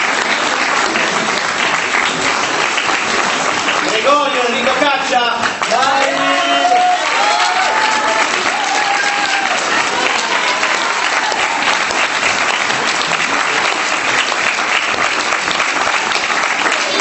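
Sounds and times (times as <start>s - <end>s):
audience applause: 0.0s - 17.0s.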